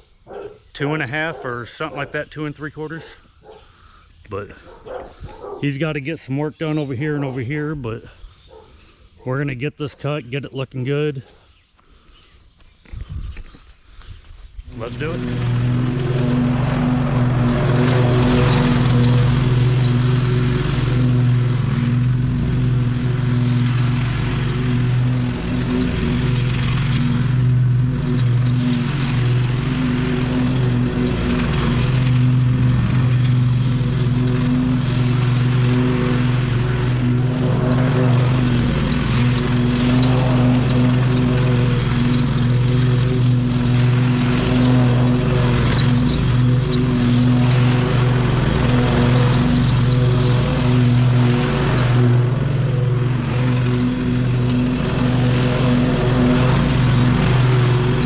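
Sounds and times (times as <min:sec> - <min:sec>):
lawn mower engine cutting grass: 0:00.0 - 0:58.0.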